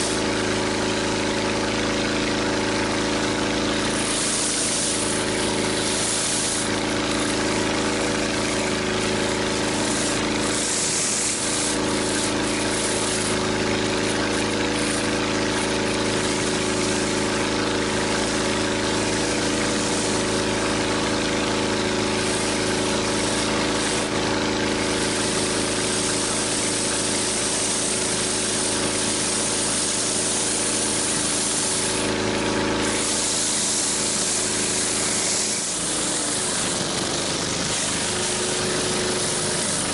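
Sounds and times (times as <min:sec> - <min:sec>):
high-pressure water spraying: 0:00.0 - 0:39.9
pressure washer engine running: 0:00.0 - 0:39.9.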